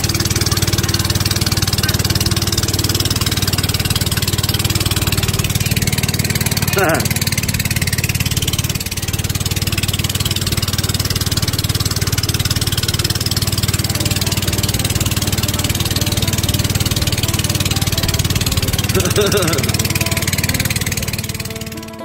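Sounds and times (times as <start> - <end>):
boat engine droning: 0.0 - 22.0
water noise: 0.0 - 22.0.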